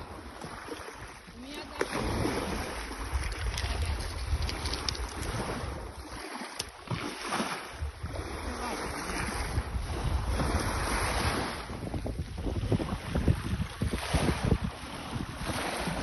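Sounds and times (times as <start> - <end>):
sea waves washing on shore: 0.0 - 16.0
wind rumbling on microphone: 0.0 - 16.0.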